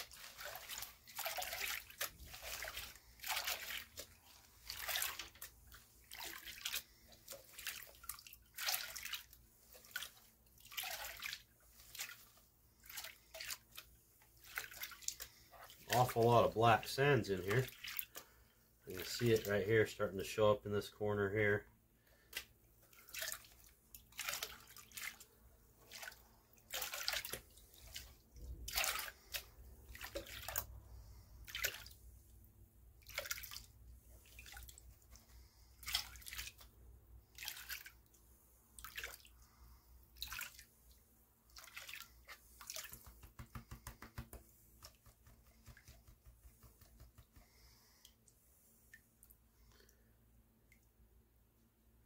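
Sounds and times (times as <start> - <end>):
water splashing and sloshing in pan: 0.0 - 20.0, 22.2 - 48.3.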